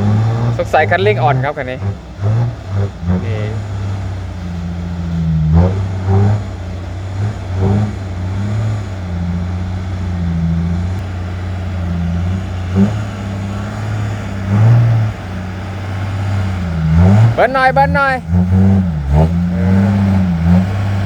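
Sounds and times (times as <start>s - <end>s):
dump truck engine labouring: 0.0s - 21.0s.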